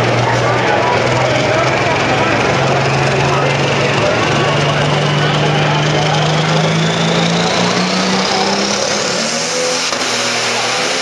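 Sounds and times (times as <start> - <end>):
diesel engine running hard: 0.0 - 11.0
turbo whine rising: 0.0 - 11.0.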